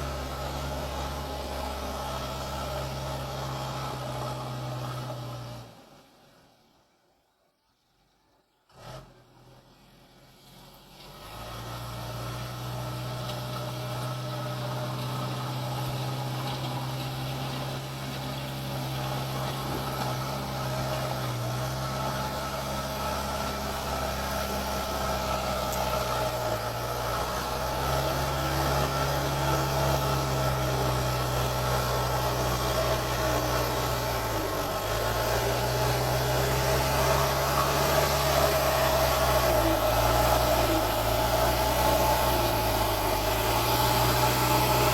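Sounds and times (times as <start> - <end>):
diesel engine running: 0.0 - 5.8, 11.0 - 44.9.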